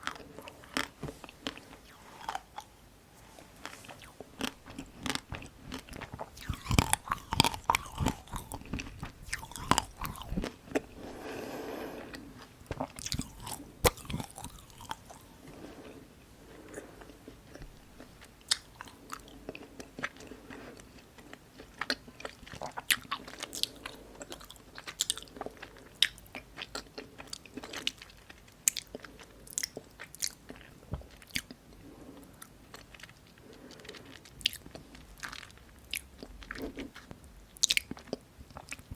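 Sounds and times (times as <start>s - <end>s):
crunching and chewing ice cream: 0.0s - 2.7s, 3.6s - 16.0s, 16.6s - 38.9s.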